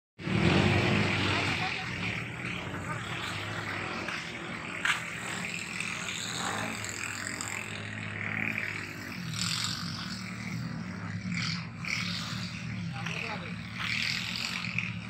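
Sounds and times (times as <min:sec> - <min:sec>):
low engine hum: 0:00.2 - 0:15.0.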